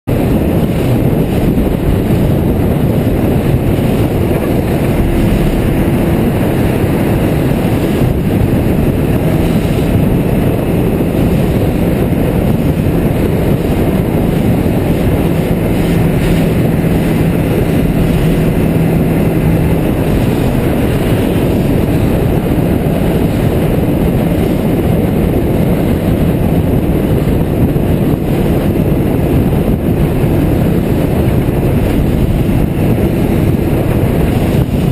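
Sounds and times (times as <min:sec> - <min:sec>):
motorcycle engine hum: 0:00.0 - 0:34.9
wind rush over microphone: 0:00.0 - 0:34.9.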